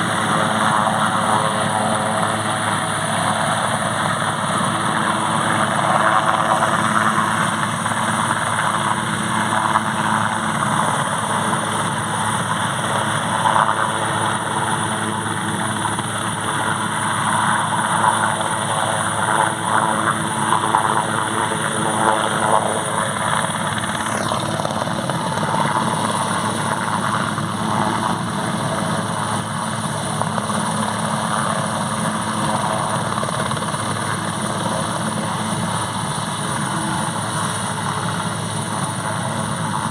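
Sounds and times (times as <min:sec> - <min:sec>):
helicopter rotor and turbine whine: 0:00.0 - 0:39.9.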